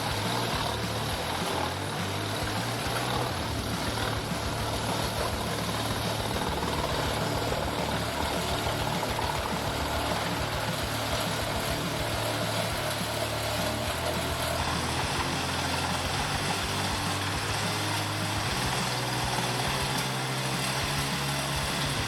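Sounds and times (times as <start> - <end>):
heavy machinery engine humming: 0.0 - 22.0.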